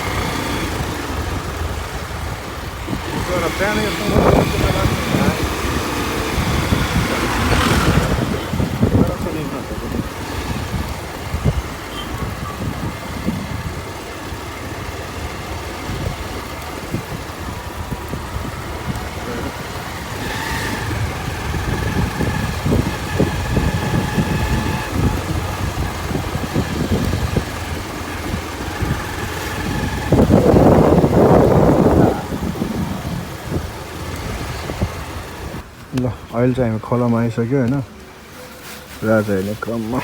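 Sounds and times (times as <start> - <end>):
motorcycle engine rumbling: 0.0 - 40.0.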